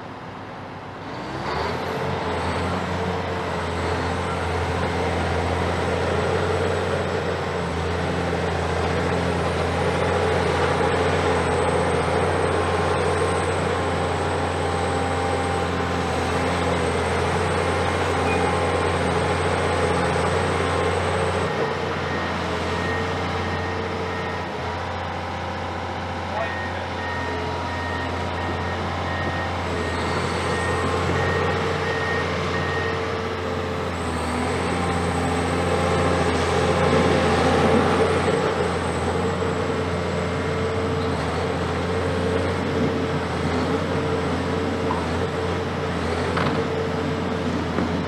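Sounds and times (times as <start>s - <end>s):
excavator diesel engine revving: 1.0s - 48.0s.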